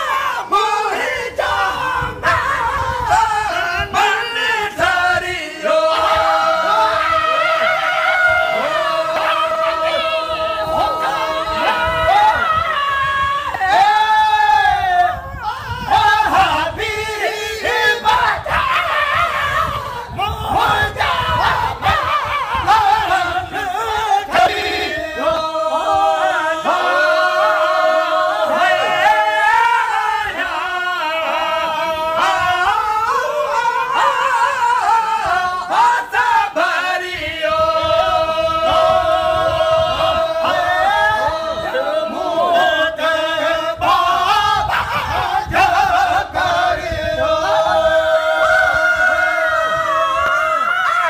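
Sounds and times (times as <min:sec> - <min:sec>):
men singing devotional chant: 0:00.0 - 0:51.0.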